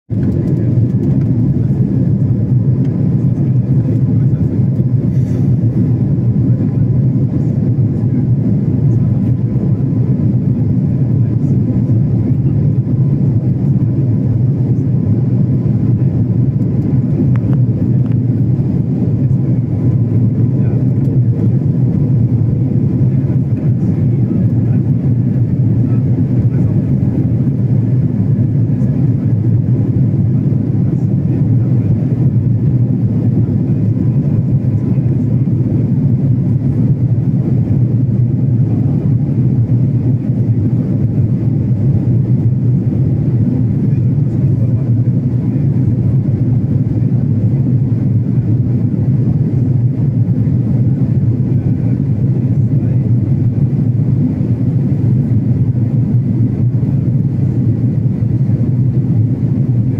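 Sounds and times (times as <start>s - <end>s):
airliner engines rumbling in cabin: 0.1s - 59.9s.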